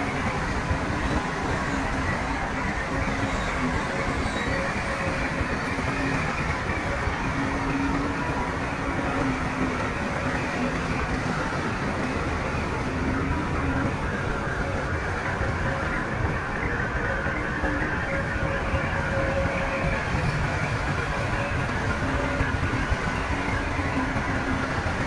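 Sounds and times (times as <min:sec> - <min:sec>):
heavy diesel machinery rumbling: 0:00.0 - 0:25.0.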